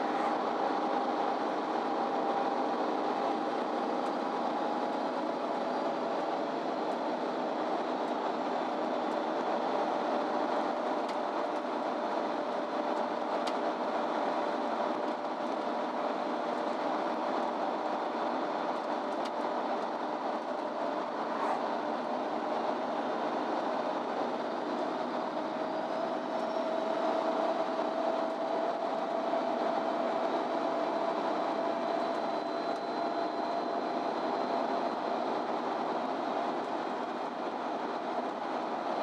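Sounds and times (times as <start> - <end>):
bus engine and road noise: 0.0 - 39.0
steady whine: 0.0 - 39.0.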